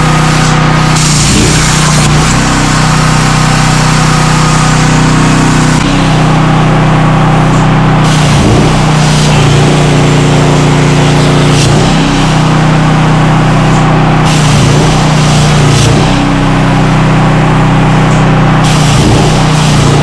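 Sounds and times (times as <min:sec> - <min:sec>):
loud steady hum: 0:00.0 - 0:20.0
plasma torch hissing: 0:00.0 - 0:20.0.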